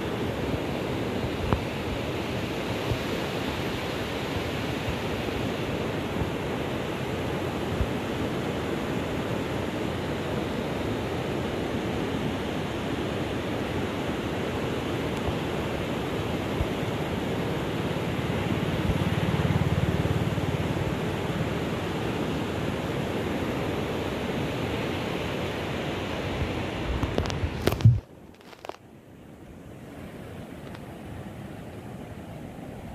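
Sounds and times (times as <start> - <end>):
rushing river over rocks: 0.0 - 32.9.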